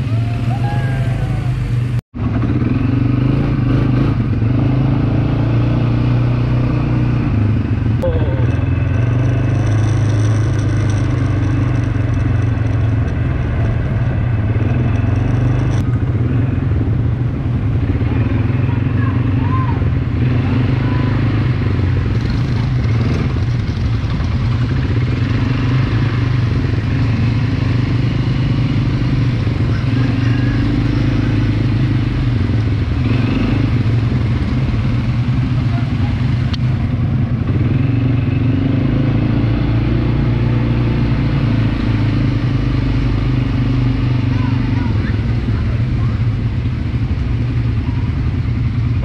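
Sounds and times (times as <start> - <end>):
atv engine running: 0.0 - 49.0.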